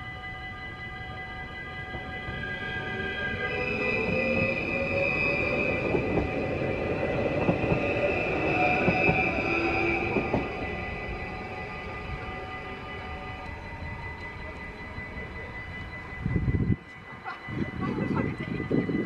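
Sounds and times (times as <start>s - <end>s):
electric train motor whine: 0.0s - 18.8s
level crossing warning bells: 0.0s - 19.0s
train wheels squealing: 0.9s - 19.0s.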